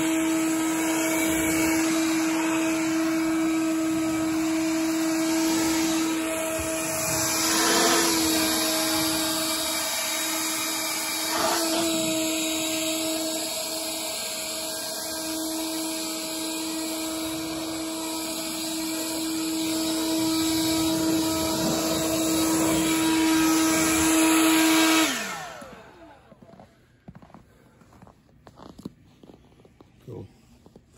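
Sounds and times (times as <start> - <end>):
leaf blower motor whine: 0.0 - 29.4.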